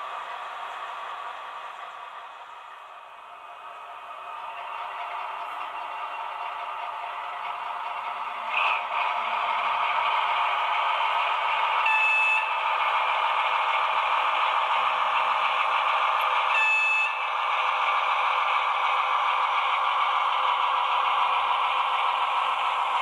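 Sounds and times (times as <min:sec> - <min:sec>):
diesel locomotive running: 0:00.0 - 0:23.0.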